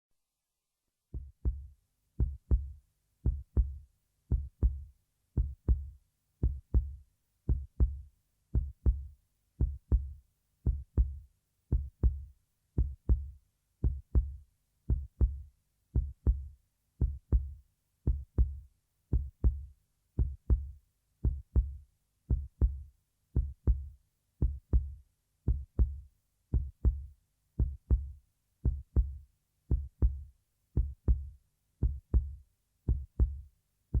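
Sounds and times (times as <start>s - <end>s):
heartbeat thumps: 1.2s - 34.0s.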